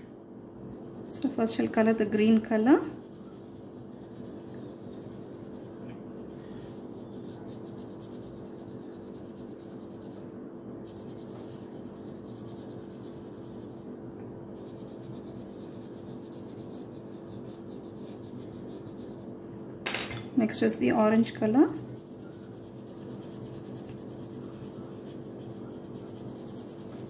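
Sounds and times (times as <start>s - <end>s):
low background hum: 0.0s - 27.0s
pencil scratching on paper: 0.7s - 19.3s, 21.4s - 27.0s.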